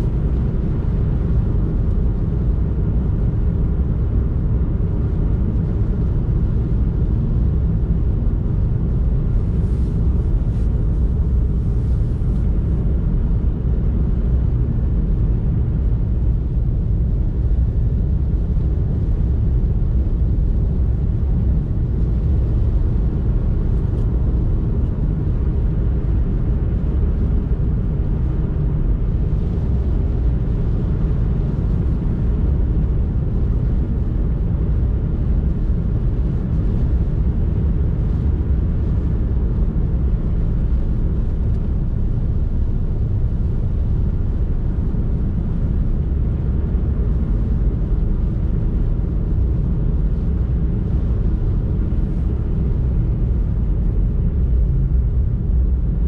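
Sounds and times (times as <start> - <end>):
car driving road noise: 0.0 - 56.0.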